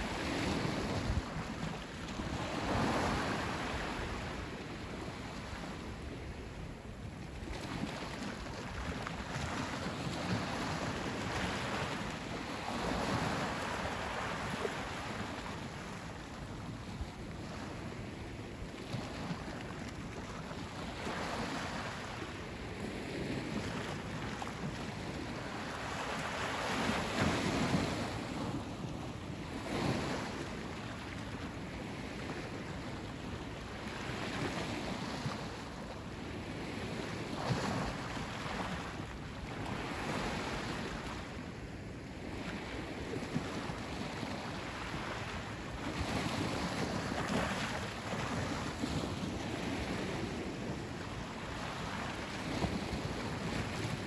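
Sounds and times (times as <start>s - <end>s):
sea waves washing on beach: 0.0s - 54.0s.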